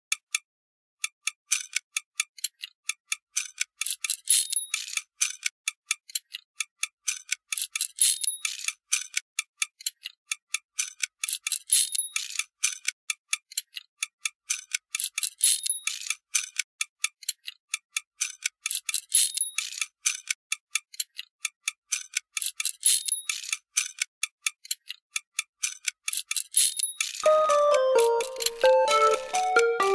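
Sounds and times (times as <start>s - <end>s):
clockwork mechanism ticking: 1.0s - 29.9s.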